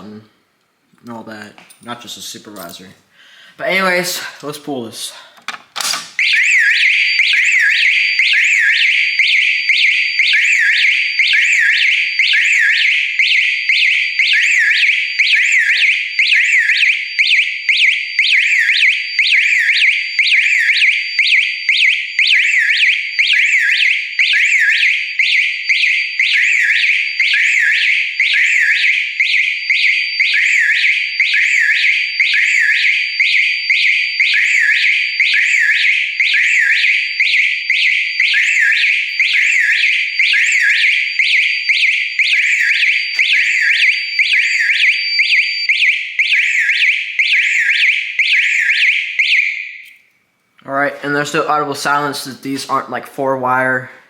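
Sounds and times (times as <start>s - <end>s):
fire alarm horns sweeping tone: 6.2s - 50.0s.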